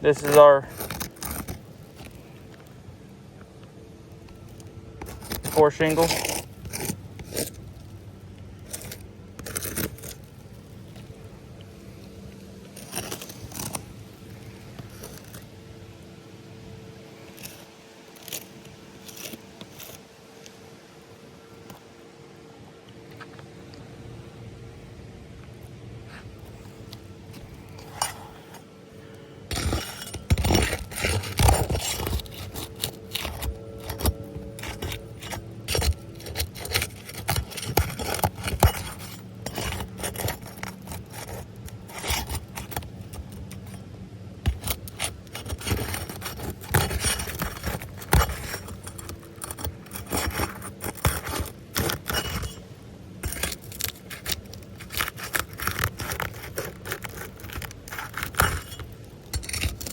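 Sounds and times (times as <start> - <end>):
scraping and rubbing shingles: 0.0 - 2.8, 4.2 - 15.5, 17.2 - 20.6, 26.1 - 43.8, 44.4 - 59.9.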